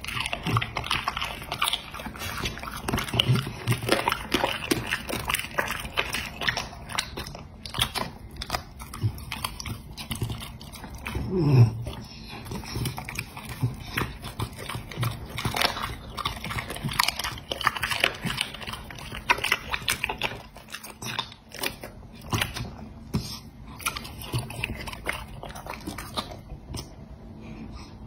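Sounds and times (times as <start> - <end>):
dog chewing meat: 0.0 - 27.1.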